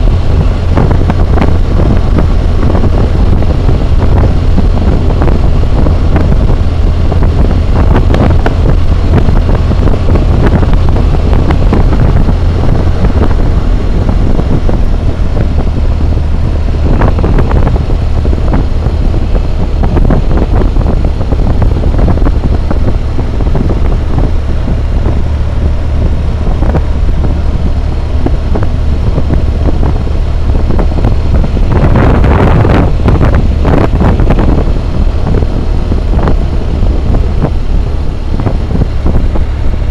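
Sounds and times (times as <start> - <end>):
motorcycle engine running: 0.0 - 39.9
wind roar on microphone: 0.0 - 39.9.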